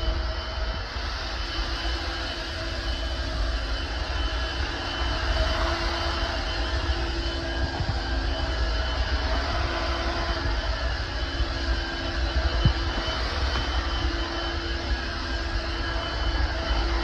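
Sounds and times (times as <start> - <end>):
stick vacuum running: 0.0 - 17.0.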